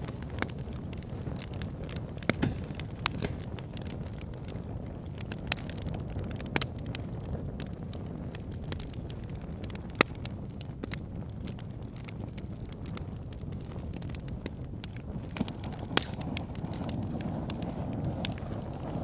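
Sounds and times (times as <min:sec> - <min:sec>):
burning logs crackling and popping: 0:00.0 - 0:19.0
low rumble of flames: 0:00.0 - 0:19.0.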